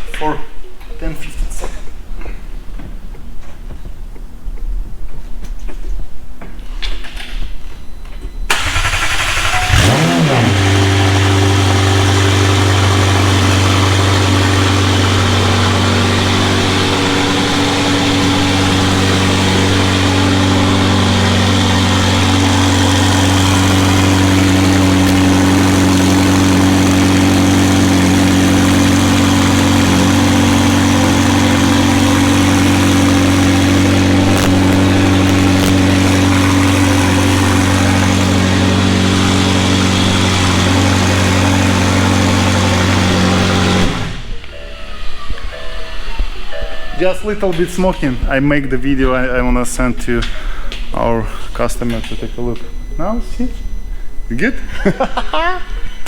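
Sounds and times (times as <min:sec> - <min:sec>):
car engine starting and idling: 0:08.5 - 0:56.0.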